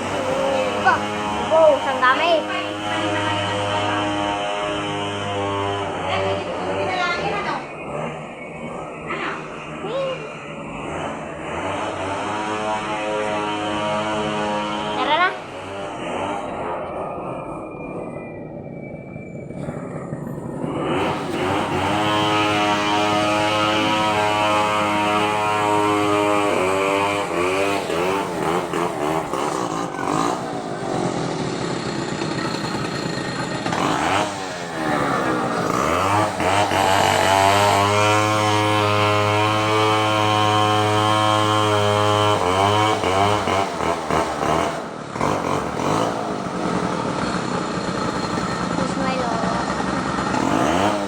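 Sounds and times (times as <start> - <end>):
small petrol engine running: 0.0 - 51.0.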